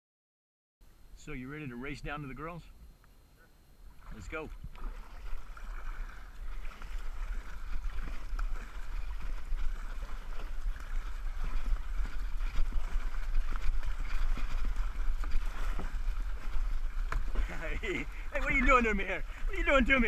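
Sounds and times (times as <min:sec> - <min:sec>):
kayak paddle splashing: 0:03.6 - 0:20.0
water washing along hull: 0:03.8 - 0:20.0.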